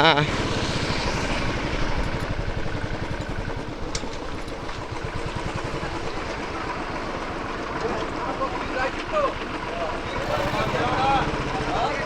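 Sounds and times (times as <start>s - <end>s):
motorcycle engine running: 0.1s - 8.9s, 9.5s - 12.0s.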